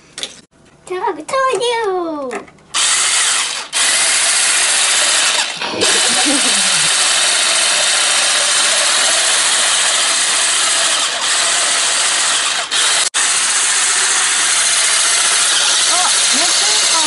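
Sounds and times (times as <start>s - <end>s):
electric mixer beating eggs: 2.8s - 17.0s.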